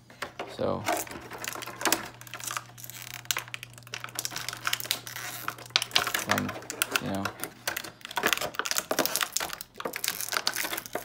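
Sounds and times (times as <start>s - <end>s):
plastic packaging crinkling: 0.6s - 11.0s.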